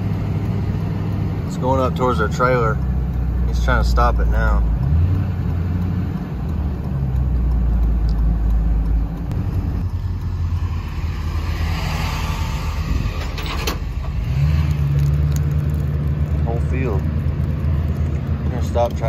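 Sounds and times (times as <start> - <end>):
truck engine from inside cab: 0.0 - 19.0.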